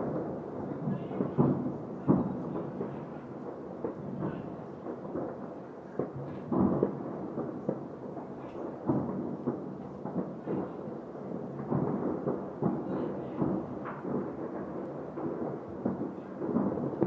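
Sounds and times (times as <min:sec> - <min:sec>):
distant fireworks booming: 0:00.0 - 0:17.0.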